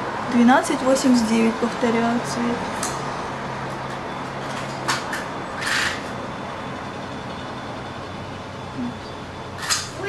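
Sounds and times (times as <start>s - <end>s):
distant road traffic hum: 0.0s - 10.0s.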